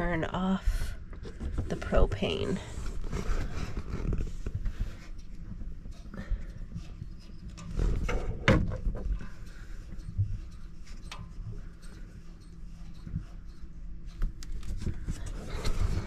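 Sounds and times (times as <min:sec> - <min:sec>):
rustling and scraping: 0:01.1 - 0:16.0.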